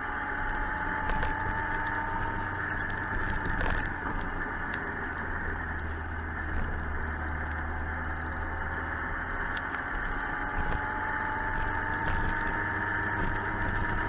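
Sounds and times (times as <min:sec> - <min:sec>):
motorcycle engine hum: 0:00.0 - 0:14.0
wind and road noise: 0:00.0 - 0:14.0.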